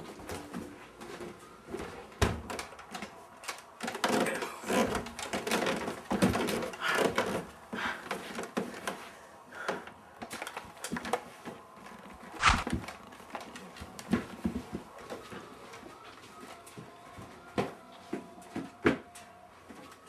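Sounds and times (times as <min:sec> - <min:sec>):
footsteps in a room: 0:00.0 - 0:20.0.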